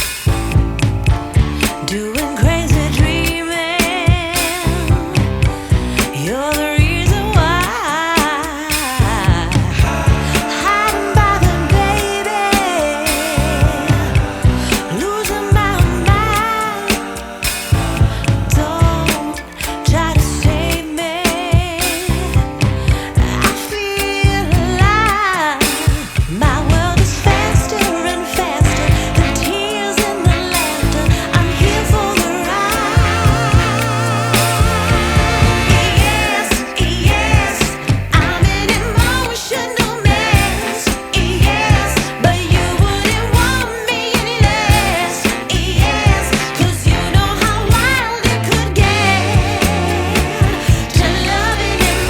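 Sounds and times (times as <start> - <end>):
pop music with drum beat: 0.0 - 52.0.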